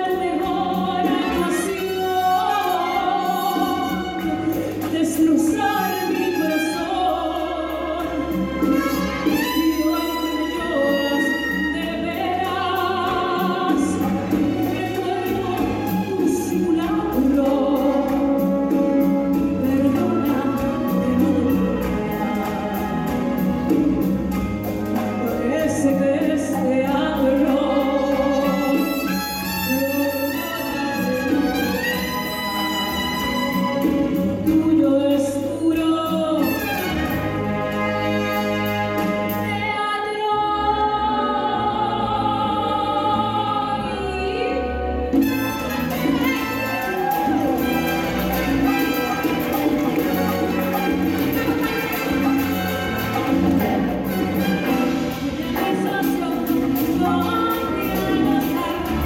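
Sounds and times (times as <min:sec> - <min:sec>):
soprano singing: 0:00.0 - 0:59.0
symphony orchestra: 0:00.0 - 0:59.0
percussion beat: 0:00.1 - 0:35.0, 0:36.1 - 0:39.4, 0:45.2 - 0:59.0.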